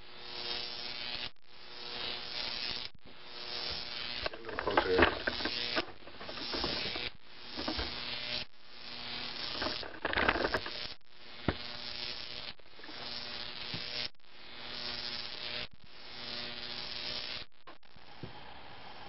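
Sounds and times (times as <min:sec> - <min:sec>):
electric arc snap: 0:00.0 - 0:18.2
electric arc buzzing and crackling: 0:00.0 - 0:19.0.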